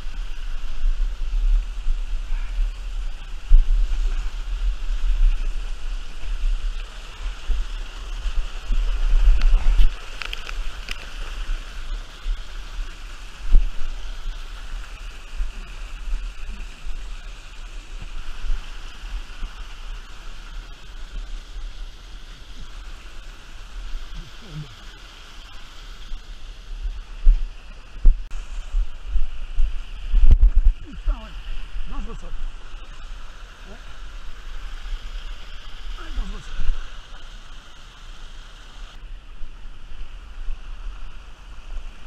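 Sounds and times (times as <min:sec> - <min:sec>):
water rushing in river cascade: 0:00.0 - 0:42.0.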